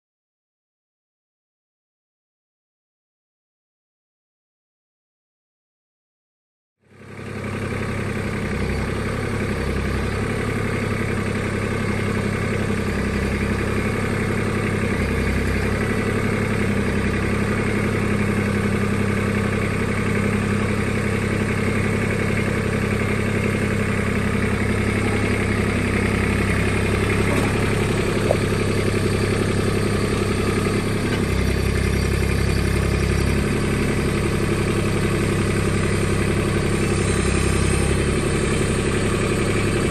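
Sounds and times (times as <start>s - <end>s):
tractor diesel engine running: 6.9s - 39.9s.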